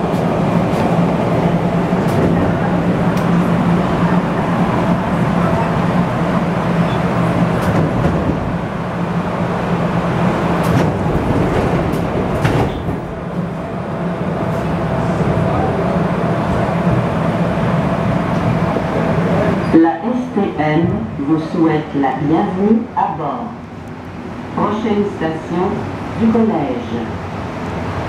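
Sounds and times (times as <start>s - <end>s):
subway car hum: 0.0s - 28.0s.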